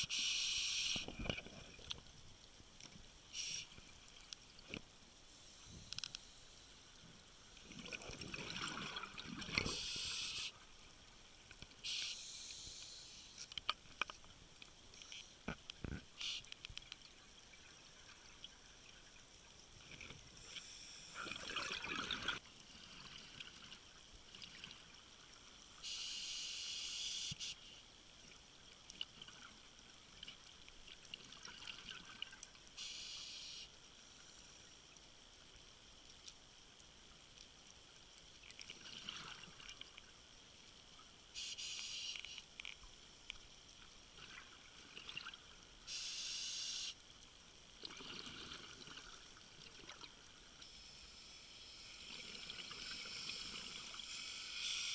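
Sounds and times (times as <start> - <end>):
water hissing and trickling: 0.0 - 54.9.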